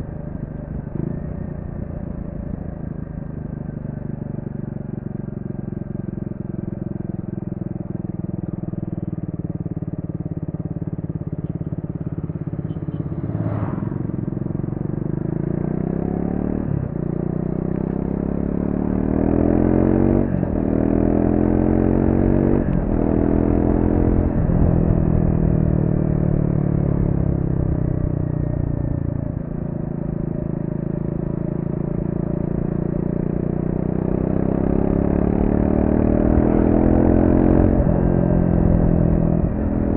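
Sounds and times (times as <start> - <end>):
motorcycle engine revving: 0.2 - 39.9.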